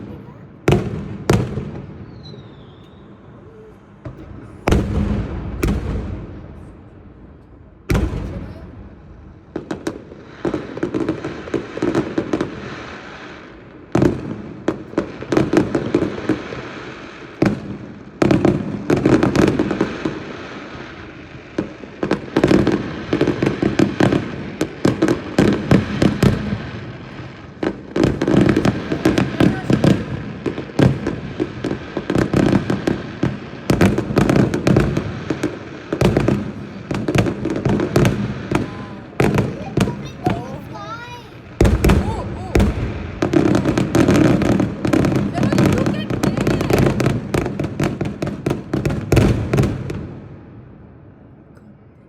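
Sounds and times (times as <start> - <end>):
fireworks crackling: 0.0 - 50.4
fireworks bangs: 0.0 - 50.8.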